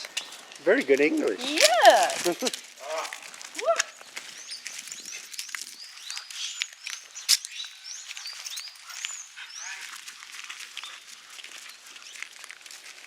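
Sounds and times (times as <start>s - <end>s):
birds chirping: 0.0s - 3.2s, 3.8s - 12.3s.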